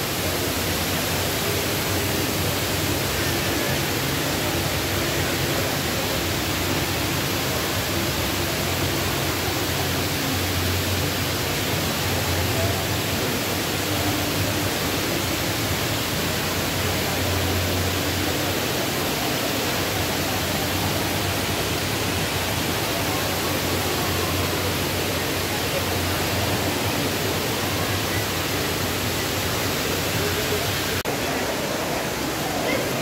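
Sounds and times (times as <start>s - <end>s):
indoor waterfall rushing: 0.0s - 33.0s.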